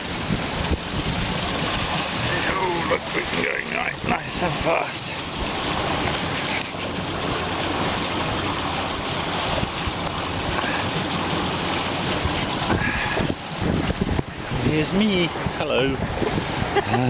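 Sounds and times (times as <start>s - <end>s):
water rushing past a hull: 0.0s - 17.0s.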